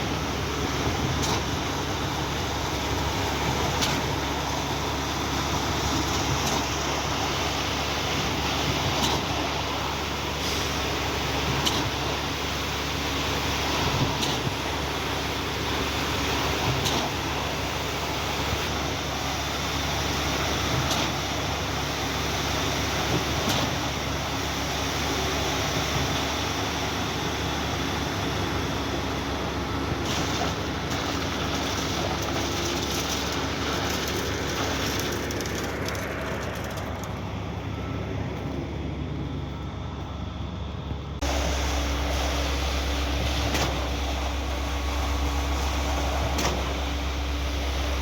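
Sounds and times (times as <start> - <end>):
diesel concrete pump running: 0.0 - 48.0.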